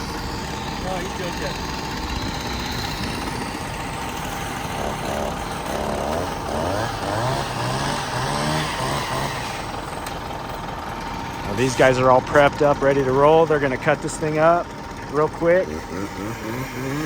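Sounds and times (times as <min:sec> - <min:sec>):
engine running steadily: 0:00.0 - 0:17.0
motor revving in surges: 0:00.0 - 0:17.0.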